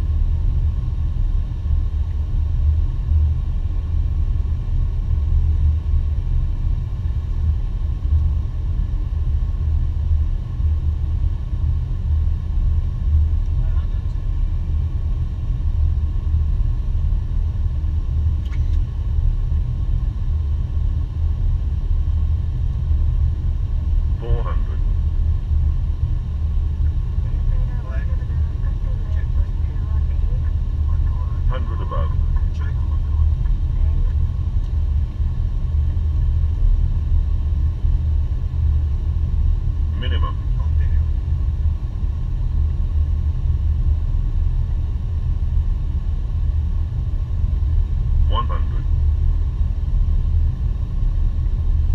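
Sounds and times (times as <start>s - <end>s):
aircraft cabin low rumble: 0.0s - 51.9s.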